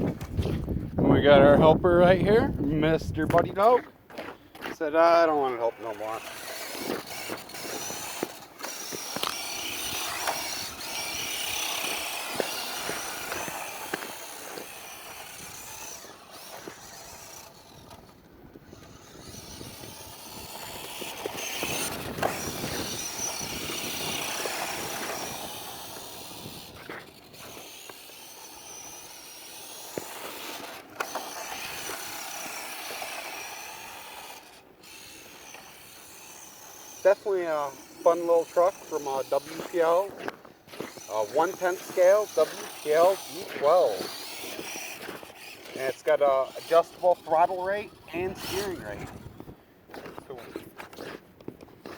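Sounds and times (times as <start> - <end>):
electric motor whine: 4.8 - 51.1.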